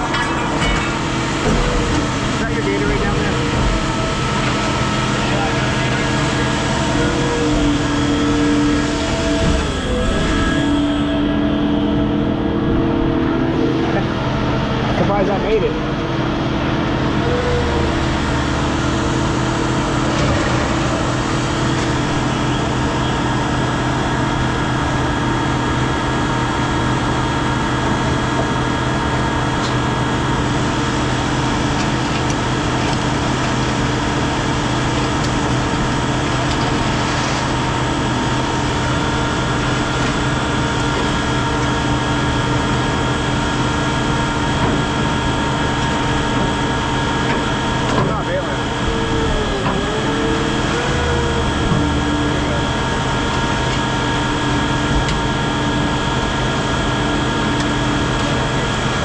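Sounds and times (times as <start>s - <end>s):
heavy machine engine humming: 0.0s - 59.0s.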